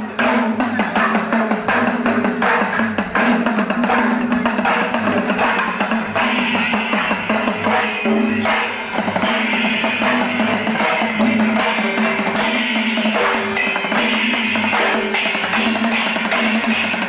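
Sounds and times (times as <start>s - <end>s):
loud drums: 0.0s - 17.0s
cymbal strikes: 2.5s - 17.0s.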